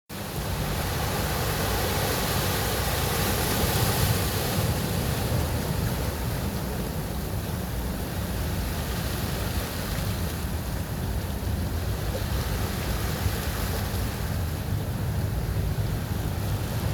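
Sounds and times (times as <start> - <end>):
ocean surf breaking on beach: 0.1 - 16.9.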